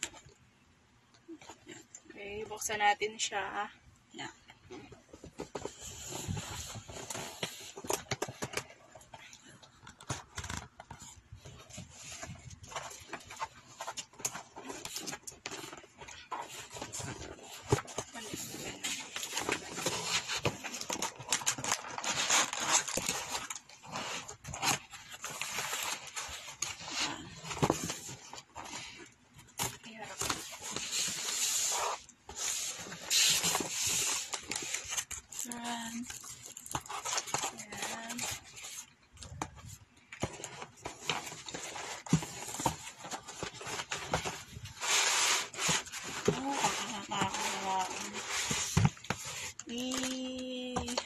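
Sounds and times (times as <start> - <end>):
plastic and cardboard rustling: 4.6 - 51.0.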